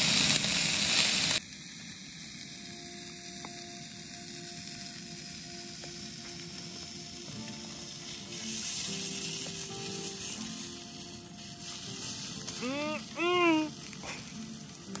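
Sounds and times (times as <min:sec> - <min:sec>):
hot dogs sizzling in frying pan: 0:00.0 - 0:15.0.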